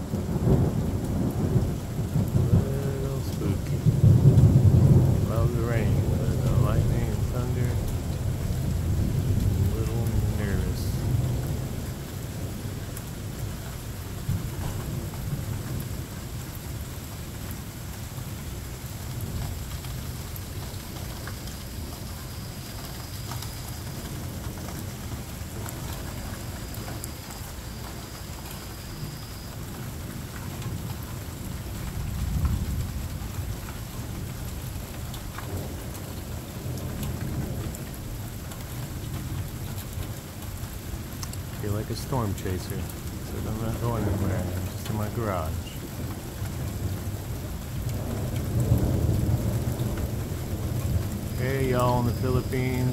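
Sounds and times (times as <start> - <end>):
thunder rumbling: 0.0 - 27.2, 28.8 - 52.9
heavy rain: 0.0 - 52.9.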